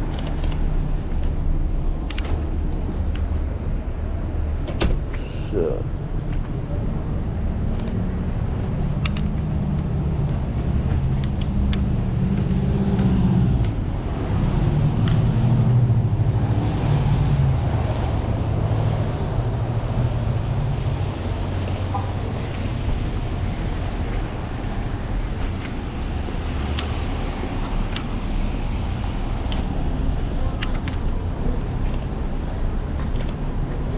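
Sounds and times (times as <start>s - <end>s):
road noise: 0.0s - 33.9s.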